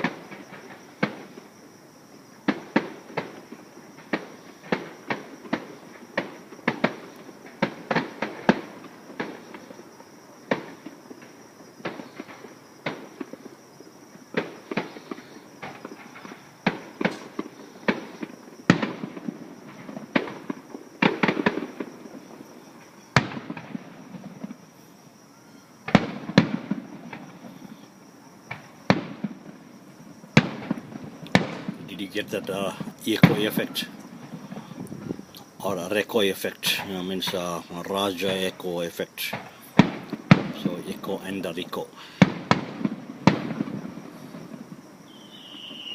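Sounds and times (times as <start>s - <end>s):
fireworks bangs and pops: 0.0s - 1.6s, 2.3s - 24.9s, 25.8s - 45.9s.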